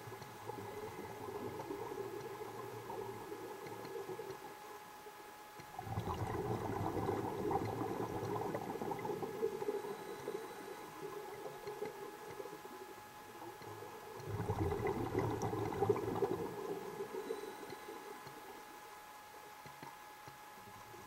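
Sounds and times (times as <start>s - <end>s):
exhaled air bubbles gurgling: 0.0s - 4.9s, 5.7s - 18.9s
faint steady hum: 0.0s - 21.0s.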